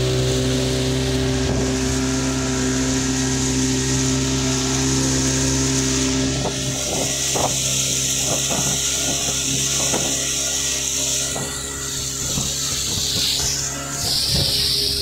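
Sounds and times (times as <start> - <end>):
rushing water: 0.0 - 15.0
speedboat engine humming: 0.0 - 15.0
wind hiss: 0.0 - 15.0.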